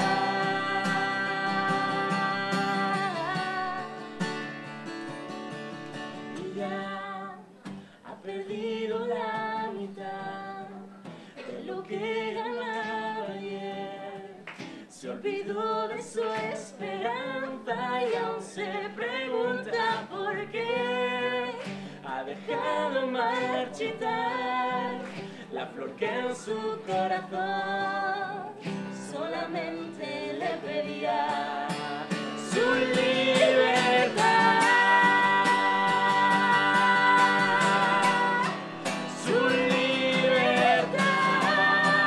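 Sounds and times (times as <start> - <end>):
woman singing: 0.0 - 4.3, 6.3 - 42.0
acoustic guitar: 0.0 - 42.0.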